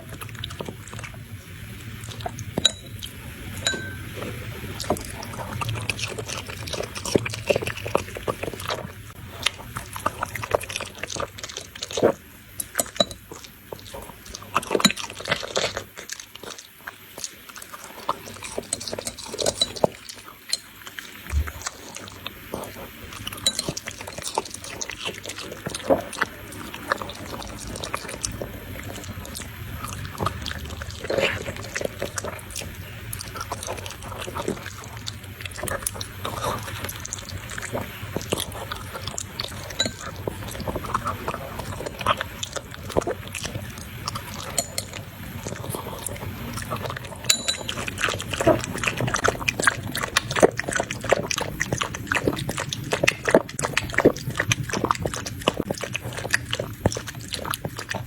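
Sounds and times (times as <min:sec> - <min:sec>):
dog chewing and slurping: 0:00.0 - 0:58.0.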